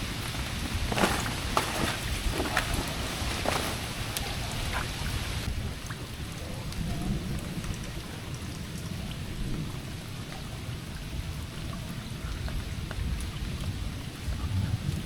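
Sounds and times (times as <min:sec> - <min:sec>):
heavy rain falling: 0:00.0 - 0:15.0
rain drops ticking: 0:00.0 - 0:15.0.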